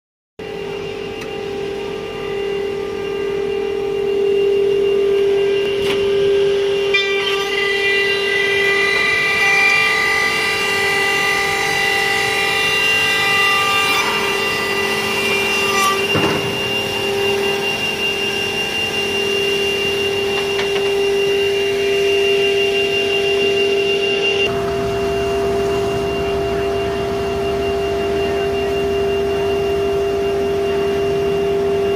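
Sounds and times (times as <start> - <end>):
machine whine: 0.4 - 31.9.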